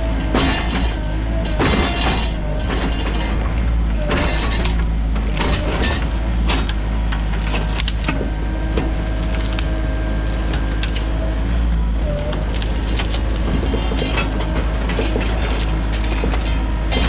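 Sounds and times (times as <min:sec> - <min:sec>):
excavator engine running: 0:00.0 - 0:17.0
wood cracking and splintering: 0:00.0 - 0:17.0.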